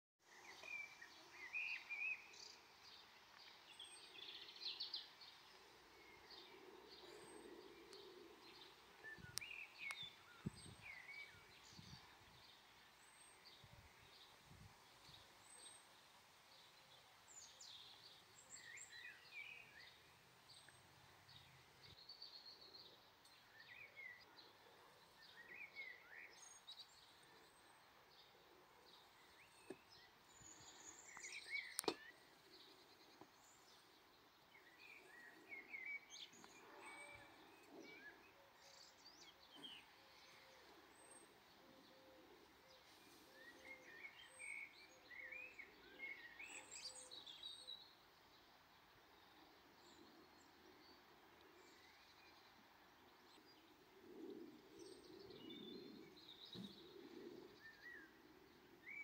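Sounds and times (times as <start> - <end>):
faint birds chirping: 0.2 - 59.0
low background hiss: 0.3 - 59.0.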